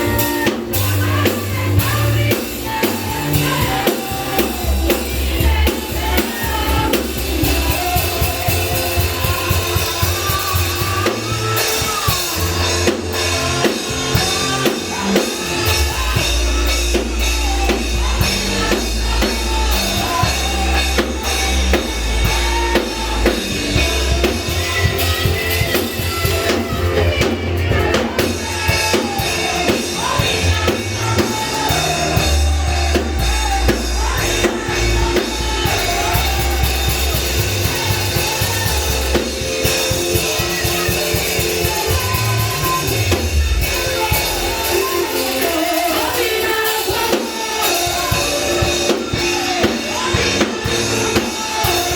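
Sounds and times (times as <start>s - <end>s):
deep bass line: 0.0s - 45.1s
drum kit playing a beat: 0.0s - 51.9s.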